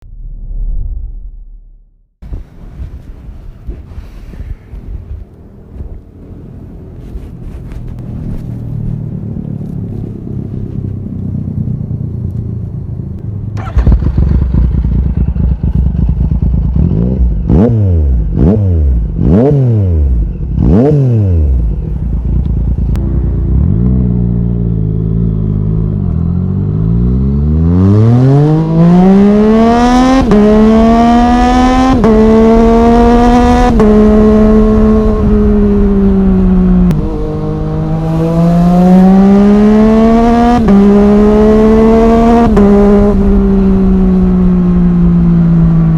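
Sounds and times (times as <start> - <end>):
motorcycle engine revving: 7.8 - 45.9.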